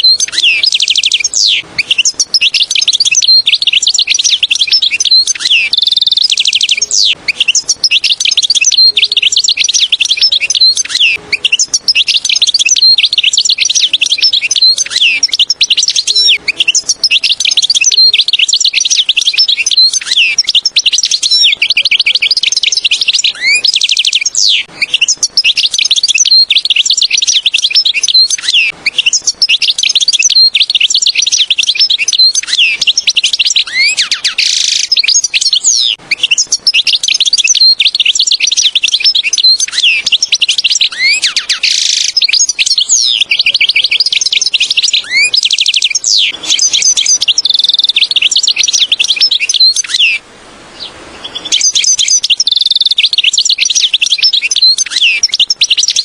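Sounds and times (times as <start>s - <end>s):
goldfinch twittering song: 0.0s - 50.2s, 50.8s - 56.0s.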